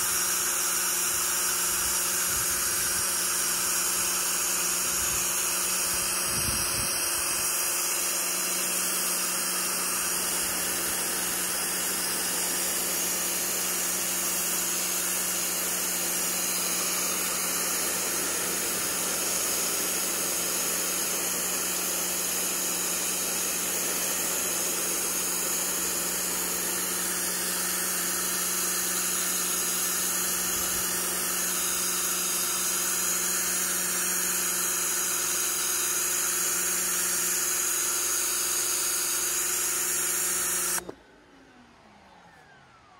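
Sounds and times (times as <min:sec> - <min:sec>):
pressure washer jet hissing: 0:00.0 - 0:40.9
machine hum: 0:01.6 - 0:41.4.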